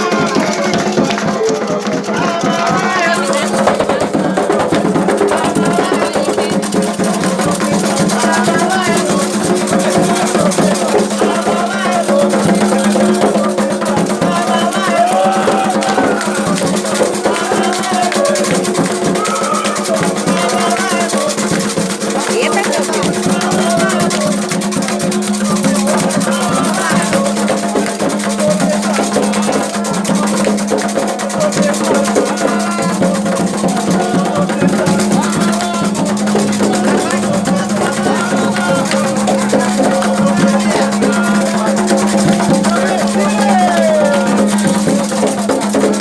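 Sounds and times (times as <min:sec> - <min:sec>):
hand drums: 0:00.0 - 0:46.0
people singing: 0:00.0 - 0:46.0
shaken rattles: 0:00.0 - 0:46.0.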